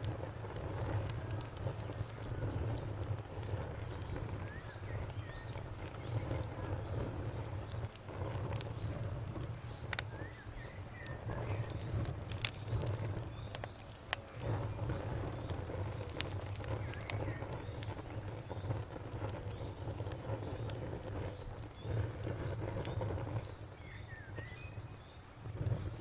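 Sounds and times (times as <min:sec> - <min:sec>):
campfire crackling and popping: 0:00.0 - 0:26.0
crickets chirping: 0:00.0 - 0:26.0
low fire rumble: 0:00.0 - 0:26.0.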